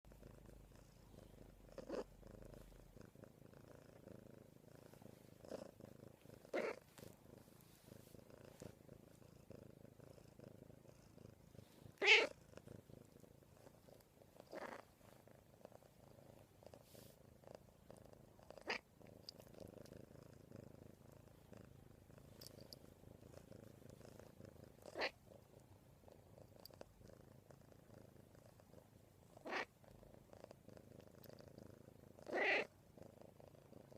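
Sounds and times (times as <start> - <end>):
cat purring: 0.1 - 33.9.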